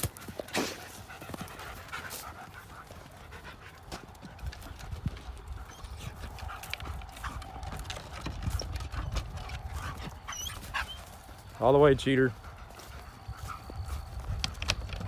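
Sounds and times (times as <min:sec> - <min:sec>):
dog paws clattering on wood: 0:00.0 - 0:15.0.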